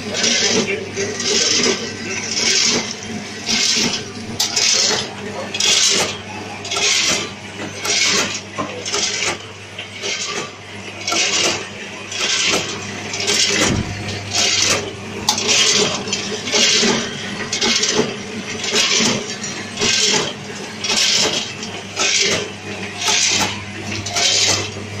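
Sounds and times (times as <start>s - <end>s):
packaging machine hissing rush: 0.0s - 10.4s, 11.0s - 25.0s
machine low hum: 0.0s - 25.0s.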